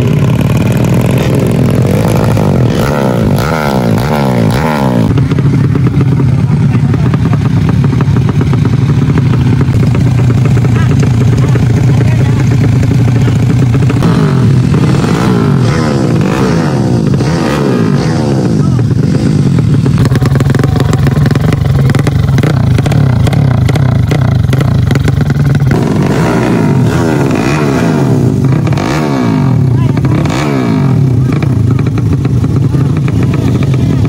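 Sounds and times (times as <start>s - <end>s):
engine crackling: 0.0s - 34.0s
motorcycle engines revving: 0.0s - 34.0s.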